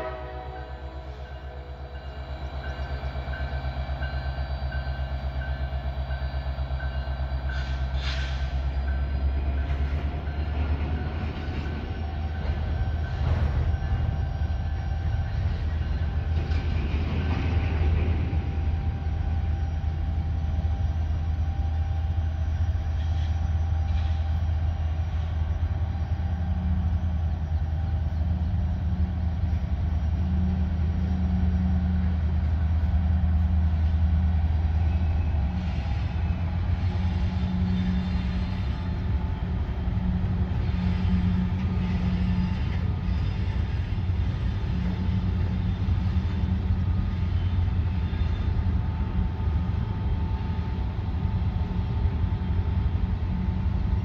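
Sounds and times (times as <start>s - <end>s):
diesel locomotive rumbling: 0.0s - 54.0s.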